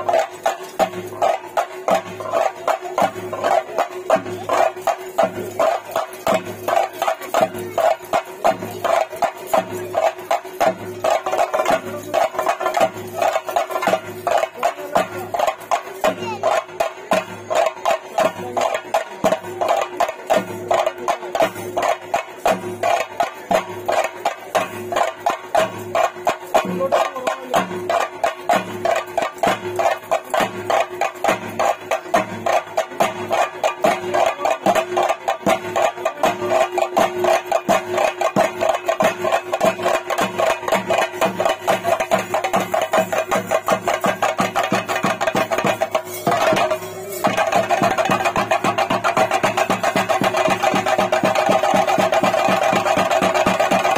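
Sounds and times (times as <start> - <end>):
drums beaten in fast rhythm: 0.0 - 53.9.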